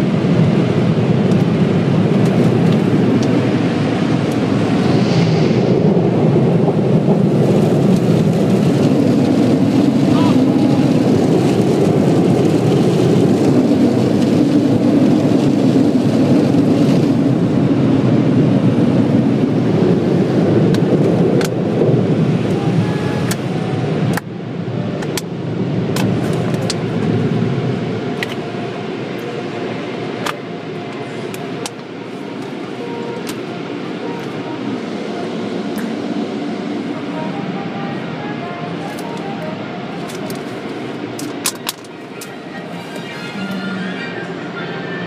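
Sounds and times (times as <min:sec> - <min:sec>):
car wash machinery rushing: 0:00.0 - 0:45.0.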